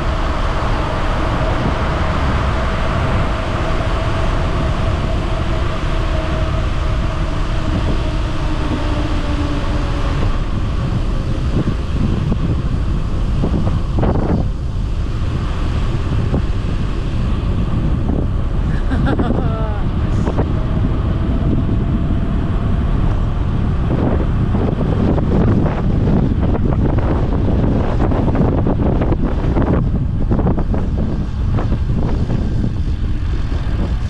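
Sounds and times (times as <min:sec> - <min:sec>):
bicycle road rumble: 0:00.0 - 0:34.0
faint hum dropping in pitch: 0:00.0 - 0:34.0
wind on microphone: 0:00.0 - 0:34.0.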